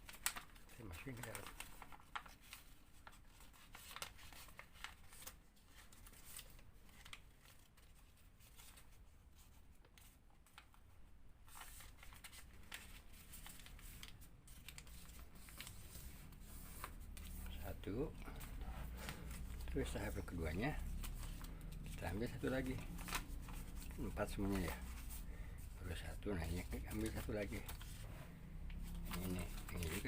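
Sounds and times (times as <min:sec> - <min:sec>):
paper rustling and crinkling: 0:00.0 - 0:30.0.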